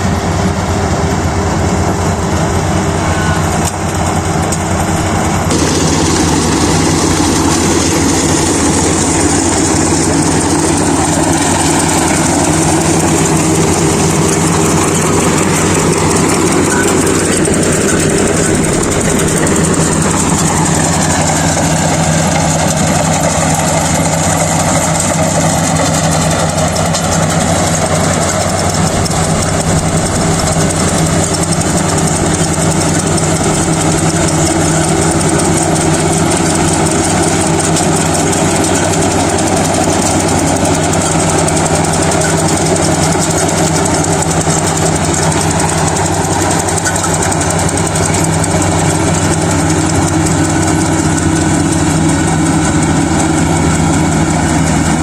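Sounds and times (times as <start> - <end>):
combine harvester diesel drone: 0.0 - 55.0.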